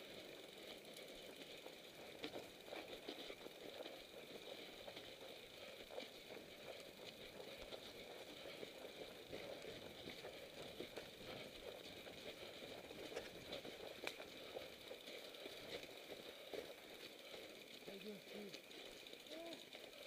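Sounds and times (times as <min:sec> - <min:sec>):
bike ticks and rattles: 0:00.0 - 0:20.0.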